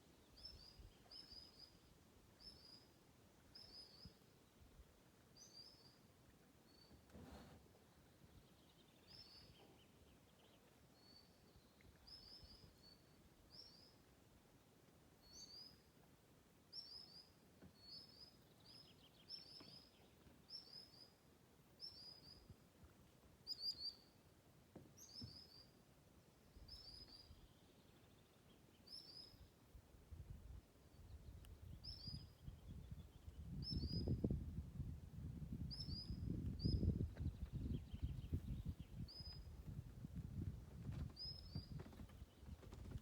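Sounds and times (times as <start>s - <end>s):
faint bird song: 0.0s - 43.0s.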